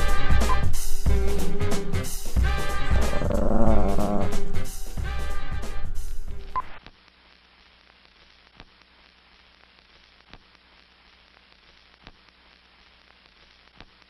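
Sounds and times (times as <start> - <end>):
faint hiss and hum: 0.0 - 14.0.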